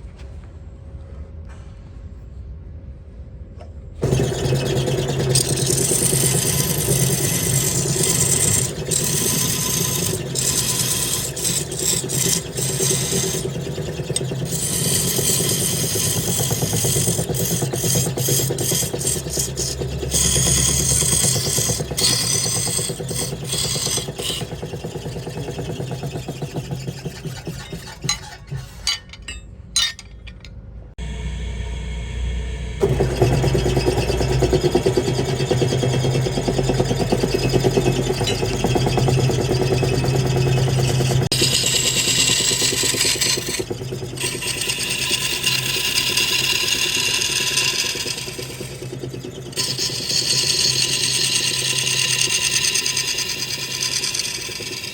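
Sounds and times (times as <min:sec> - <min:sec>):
lathe motor hum: 0:04.0 - 0:29.0, 0:31.0 - 0:54.9
tool scraping spinning wood: 0:04.0 - 0:30.6, 0:32.8 - 0:54.9.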